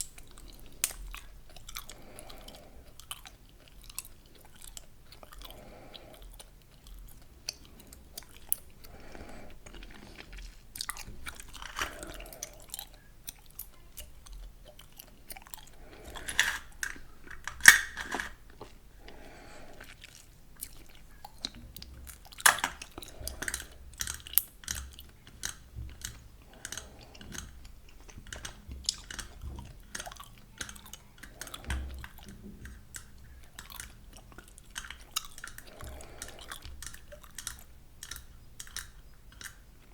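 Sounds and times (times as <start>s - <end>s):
gum chewing: 0.0s - 39.9s.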